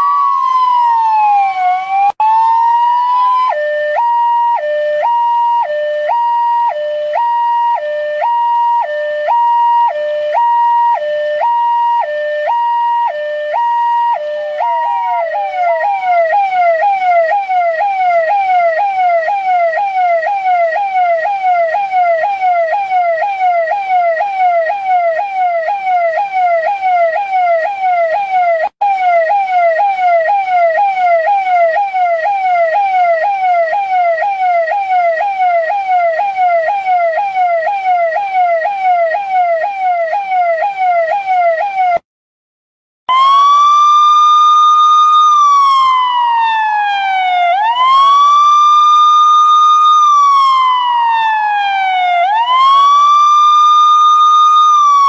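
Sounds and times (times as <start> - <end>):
electronic police siren: 0.0 - 42.0, 43.1 - 55.0.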